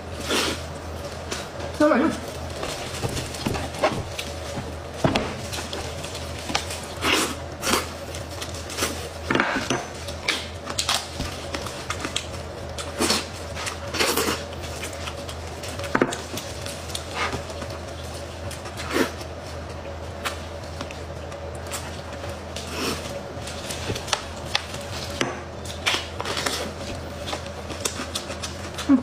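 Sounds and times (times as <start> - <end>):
plastic gloves crinkling: 0.0 - 9.3, 9.9 - 29.0
steady low hum: 0.0 - 29.0.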